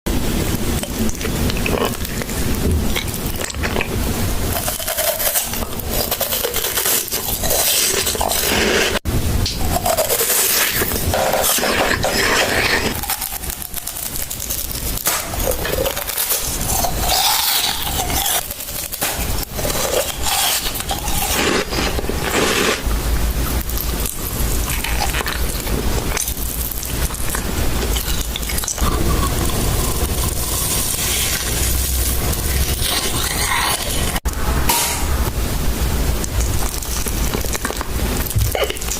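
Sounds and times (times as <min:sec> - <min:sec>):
crunchy chewing: 0:00.7 - 0:34.3.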